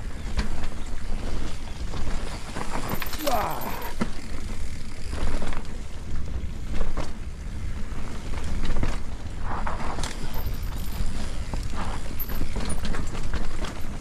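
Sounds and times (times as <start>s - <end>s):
bikes knocking and rattling: 0.0s - 14.0s.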